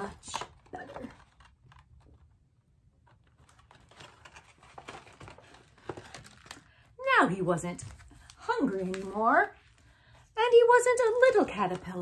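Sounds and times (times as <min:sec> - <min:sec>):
book pages turning: 0:00.0 - 0:06.8, 0:07.6 - 0:10.4, 0:11.0 - 0:12.0.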